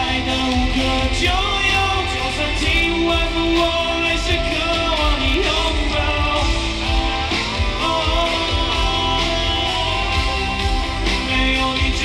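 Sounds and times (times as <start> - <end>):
live pop-rock band: 0.0 - 12.0
man singing long notes: 0.0 - 12.0.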